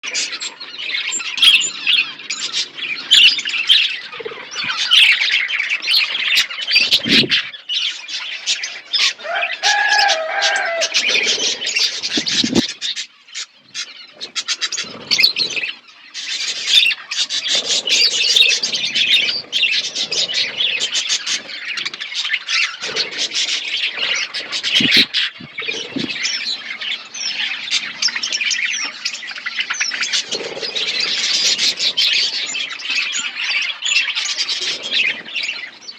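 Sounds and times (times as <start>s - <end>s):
caged birds chirping and squawking: 0.0s - 35.9s.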